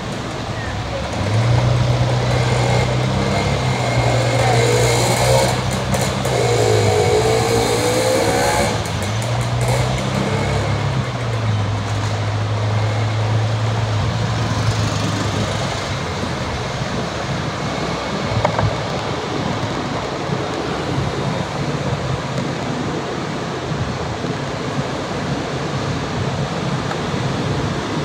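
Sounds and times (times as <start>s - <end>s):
vehicle engine driving: 0.0s - 28.0s.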